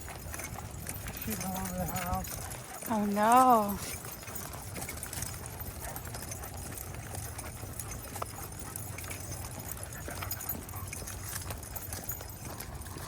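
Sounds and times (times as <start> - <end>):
footsteps and dog paws on path: 0.0 - 13.0
low constant rumble: 0.0 - 13.0.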